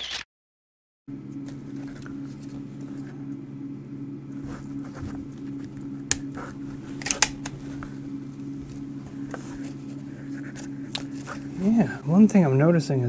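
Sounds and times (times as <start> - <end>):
low hum: 1.1 - 13.0.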